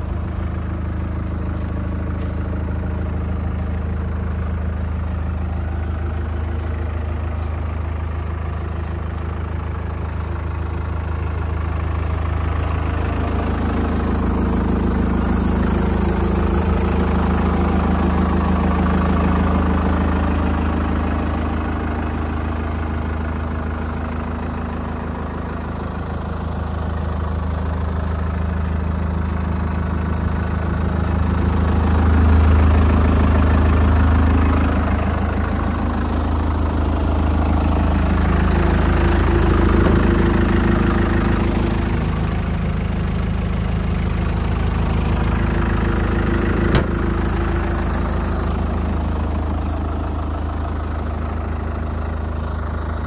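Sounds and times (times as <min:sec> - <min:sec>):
tractor diesel engine idling: 0:00.0 - 0:53.0.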